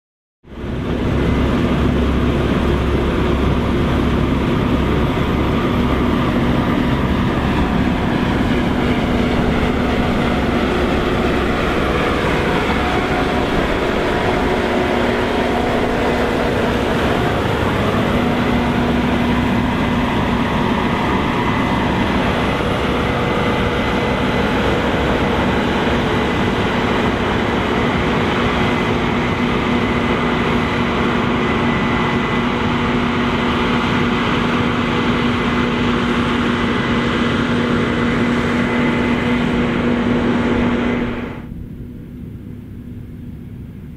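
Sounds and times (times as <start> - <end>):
combine harvester drone: 0.4 - 43.9.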